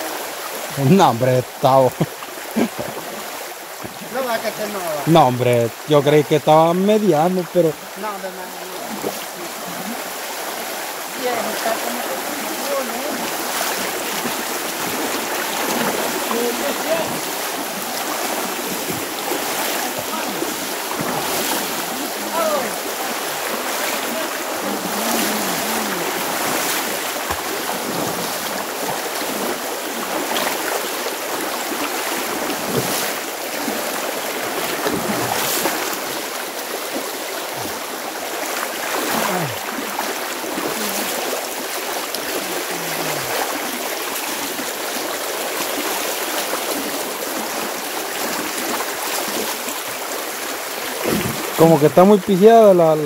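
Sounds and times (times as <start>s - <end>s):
creek rushing: 0.0s - 53.0s.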